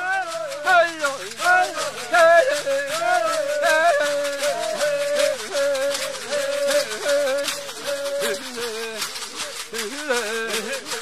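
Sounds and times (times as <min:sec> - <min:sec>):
rattling beat: 0:00.0 - 0:11.0
wavering melody: 0:00.0 - 0:11.0.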